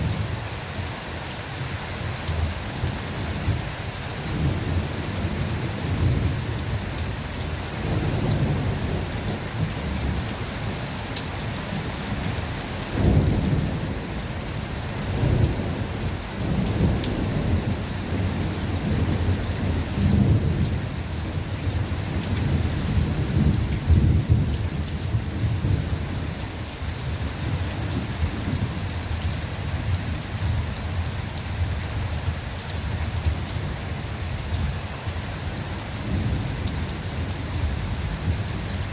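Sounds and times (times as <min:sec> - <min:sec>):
rain falling in forest: 0:00.0 - 0:38.9
low rolling thunder: 0:02.3 - 0:06.8, 0:07.6 - 0:10.8, 0:11.6 - 0:33.8, 0:35.9 - 0:38.9.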